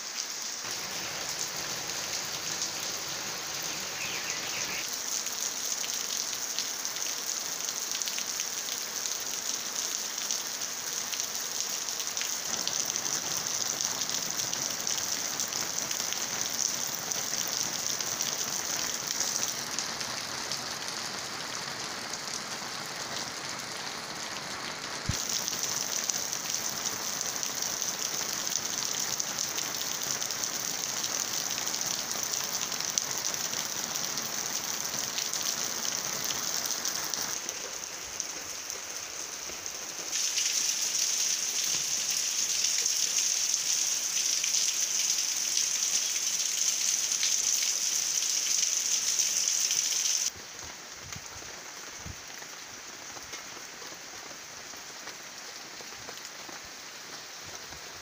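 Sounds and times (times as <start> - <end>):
rain falling through trees: 0.0 - 58.0.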